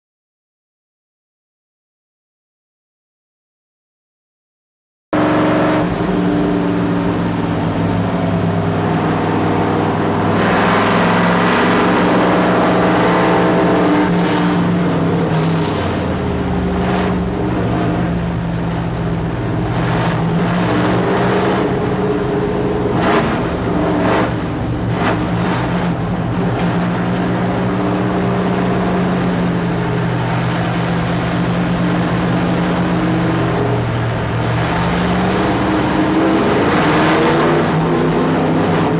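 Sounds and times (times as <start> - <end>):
race car engine running: 5.2 - 38.9.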